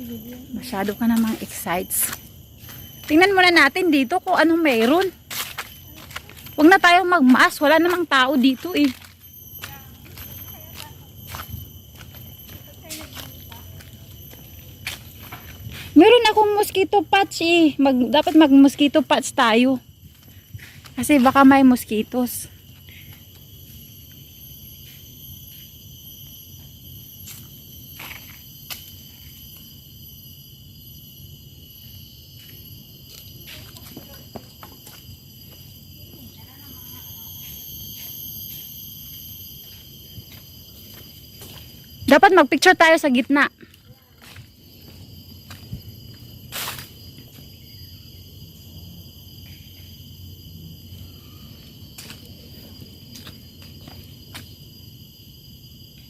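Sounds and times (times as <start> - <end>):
forest insects chorus: 0.0 - 56.0.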